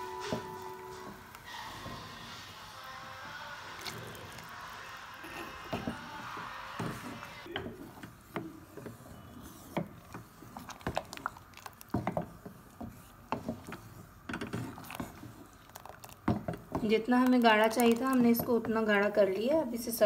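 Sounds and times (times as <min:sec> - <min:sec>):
wooden spoon scraping saucepan: 0:00.0 - 0:20.0.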